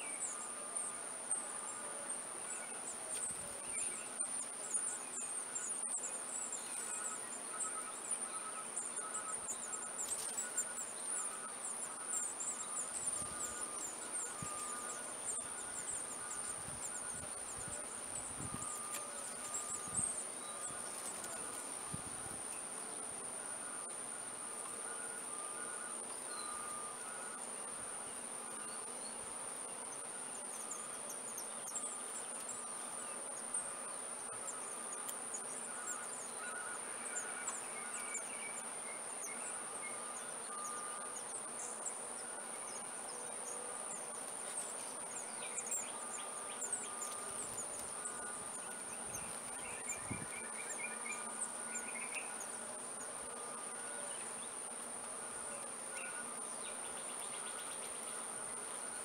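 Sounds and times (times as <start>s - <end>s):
insect trill: 0.0s - 59.0s
insects droning high-pitched: 0.0s - 59.0s.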